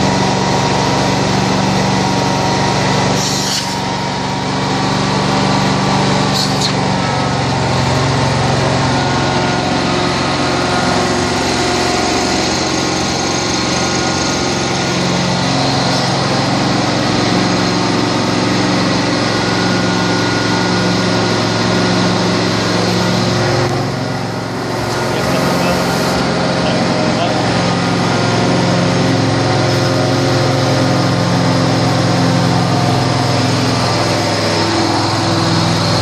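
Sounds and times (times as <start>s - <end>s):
cleaning machine engine droning: 0.0s - 36.0s.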